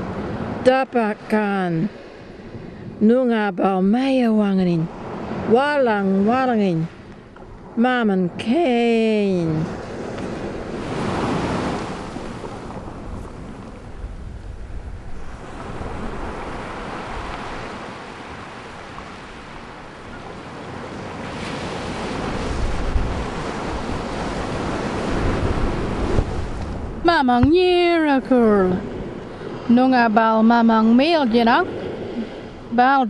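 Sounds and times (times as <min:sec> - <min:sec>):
ocean surf washing in: 0:00.0 - 0:33.0.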